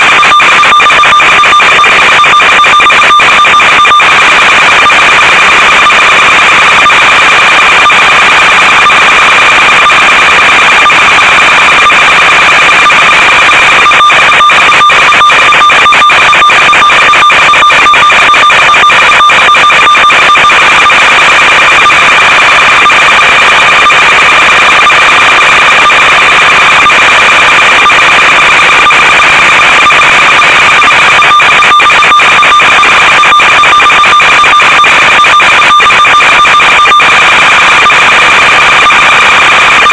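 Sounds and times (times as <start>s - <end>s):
static crackles: 0.0s - 39.9s.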